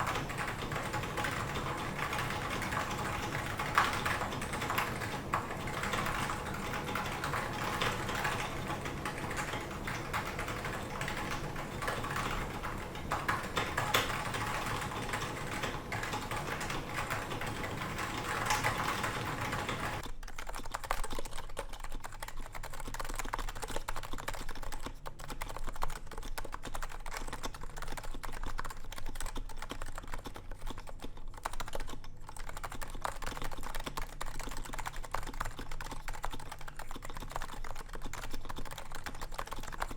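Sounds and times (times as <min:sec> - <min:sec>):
typing on keyboard: 0:00.0 - 0:39.9.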